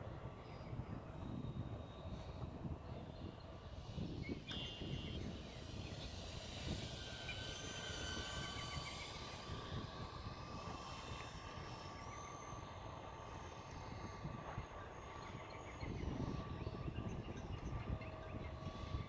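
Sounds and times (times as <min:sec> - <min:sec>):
electric propellers whining: 0:00.0 - 0:19.0
wind rumbling on microphone: 0:00.0 - 0:19.0.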